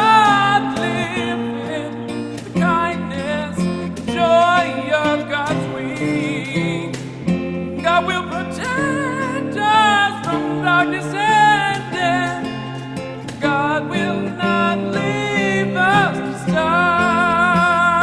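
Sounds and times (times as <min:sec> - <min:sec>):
acoustic guitar: 0:00.0 - 0:18.0
person singing slow melody: 0:00.0 - 0:18.0.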